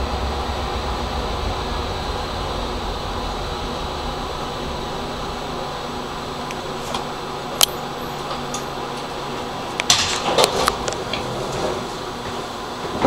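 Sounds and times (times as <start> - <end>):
tram interior hum: 0.0 - 13.0.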